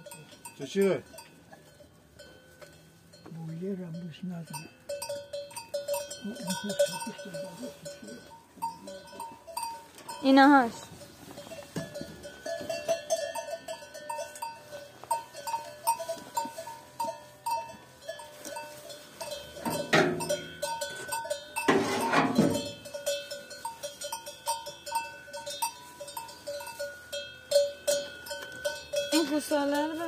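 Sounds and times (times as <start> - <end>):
cowbell clanking: 0.0 - 30.0.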